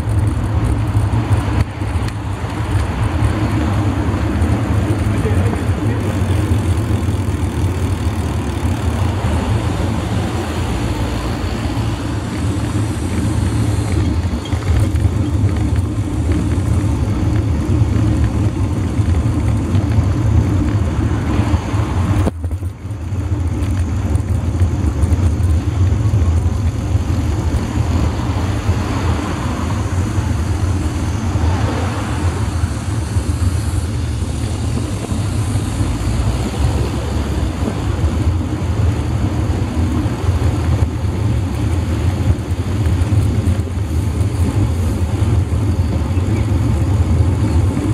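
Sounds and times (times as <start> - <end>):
wind and road noise rumble: 0.0 - 47.9.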